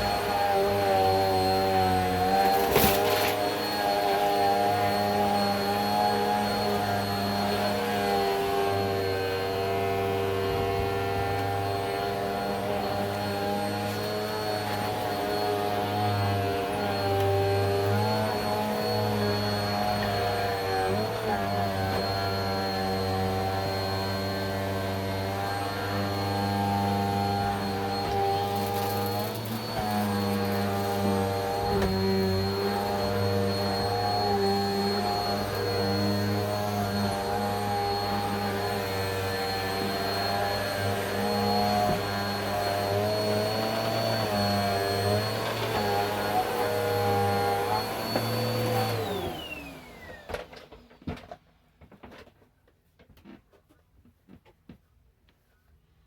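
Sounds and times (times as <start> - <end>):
vacuum cleaner motor whine: 0.0 - 51.2.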